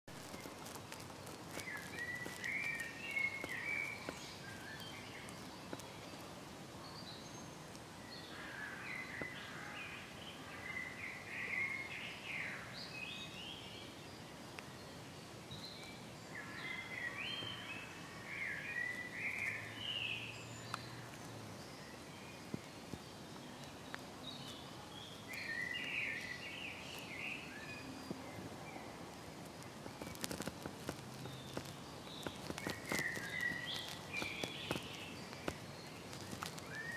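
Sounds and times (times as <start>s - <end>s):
outdoor background hiss: 0.1s - 36.9s
songbird chirping: 0.1s - 36.9s.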